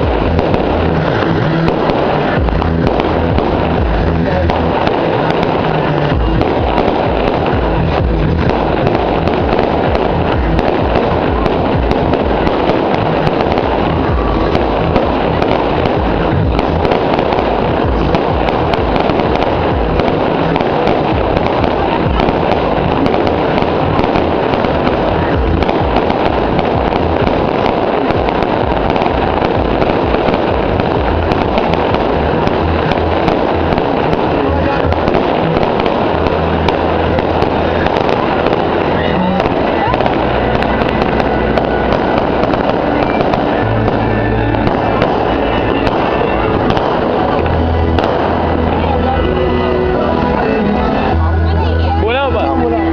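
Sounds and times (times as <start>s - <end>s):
fireworks crackling and popping: 0.0s - 52.9s
music: 0.0s - 52.9s
voices: 0.0s - 52.9s.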